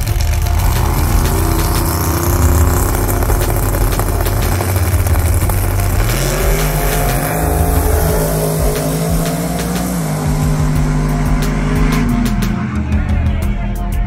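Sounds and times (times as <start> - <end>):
engine revving up: 0.0 - 13.5
drag racing car engines running: 0.0 - 13.6.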